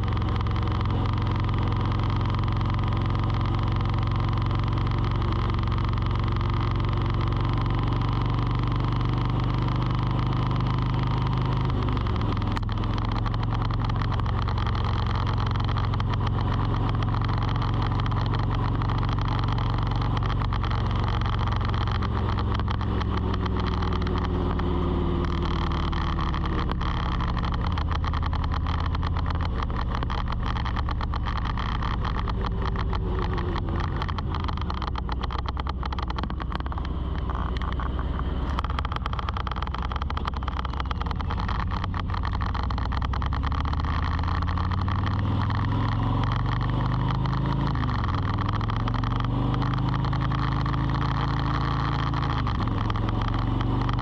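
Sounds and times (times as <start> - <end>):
fine ticking: 0.0 - 54.0
vehicle engine humming: 0.0 - 54.0.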